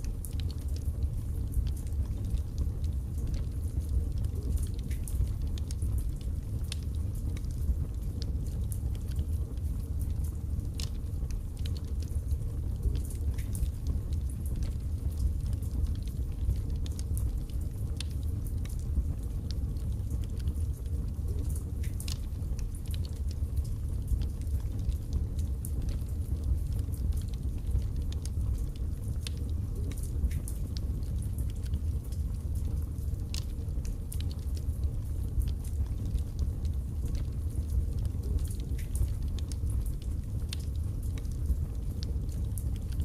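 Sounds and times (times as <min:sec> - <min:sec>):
fire crackling and popping: 0:00.0 - 0:43.0
low rumble of flames: 0:00.0 - 0:43.0.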